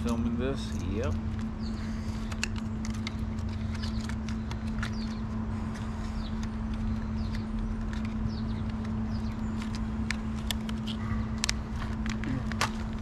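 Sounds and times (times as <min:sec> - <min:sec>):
faint birds chirping: 0:00.0 - 0:13.0
steady low hum: 0:00.0 - 0:13.0
plastic packaging clicks and handling: 0:02.2 - 0:13.0.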